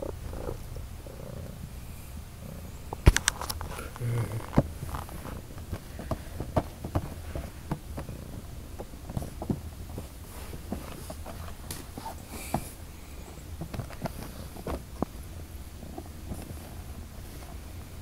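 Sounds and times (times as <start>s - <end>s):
cat purring: 0.0s - 3.0s, 3.7s - 18.0s.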